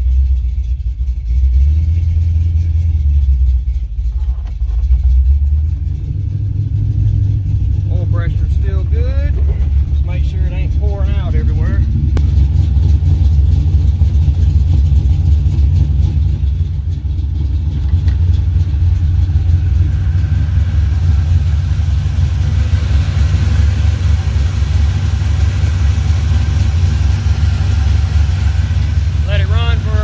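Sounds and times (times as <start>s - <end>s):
vee eight engine running: 0.0s - 30.0s.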